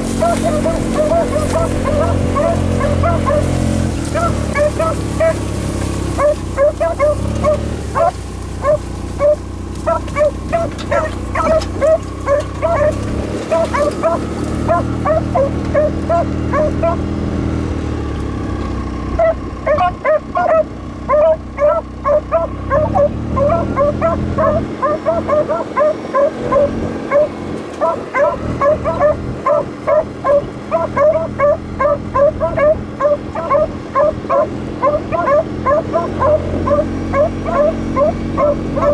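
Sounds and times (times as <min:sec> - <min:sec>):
dogs baying: 0:00.0 - 0:17.3, 0:19.1 - 0:38.9
utility vehicle engine hum: 0:00.0 - 0:38.9.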